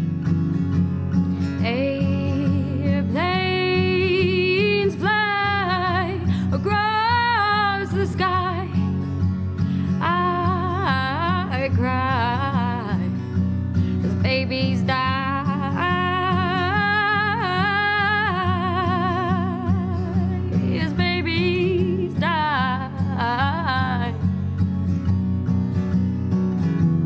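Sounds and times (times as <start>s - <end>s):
strummed acoustic guitar: 0.0s - 27.0s
woman singing: 1.4s - 9.1s, 9.8s - 24.4s.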